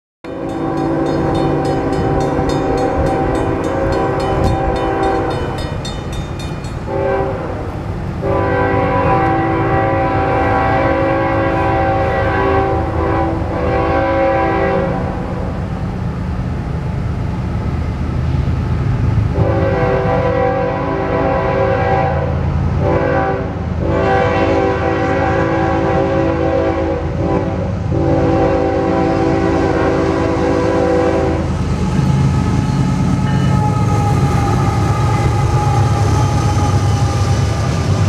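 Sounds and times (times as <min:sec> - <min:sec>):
locomotive horn blasts: 0:00.2 - 0:06.0, 0:06.7 - 0:15.3, 0:19.3 - 0:31.6, 0:32.4 - 0:37.8
locomotive rumble: 0:00.2 - 0:38.0.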